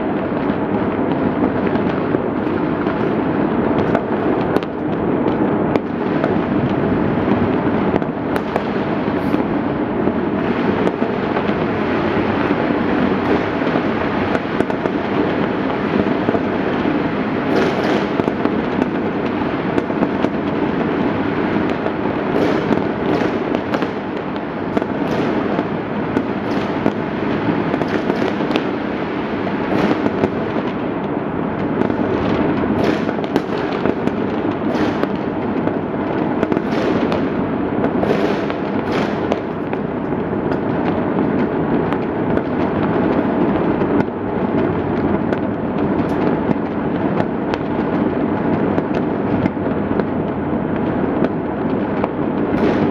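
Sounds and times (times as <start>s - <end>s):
firecracker bangs: 0.0s - 52.9s
fireworks crackling: 0.0s - 52.9s.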